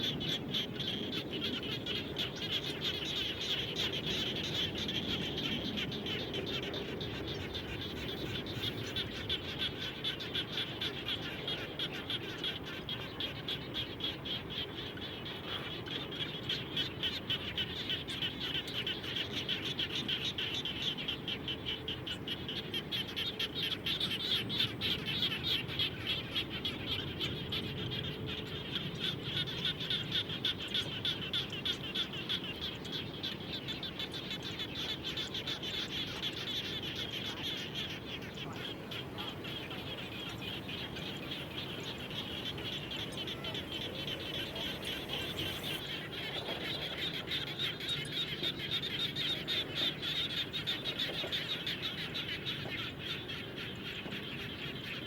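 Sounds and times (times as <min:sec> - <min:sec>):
frogs trilling: 0:00.0 - 0:55.0.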